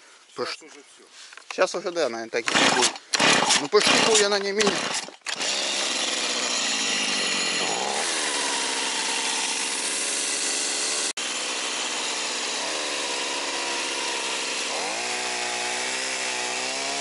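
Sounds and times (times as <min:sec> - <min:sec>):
chainsaw cutting wood: 0:02.4 - 0:17.0.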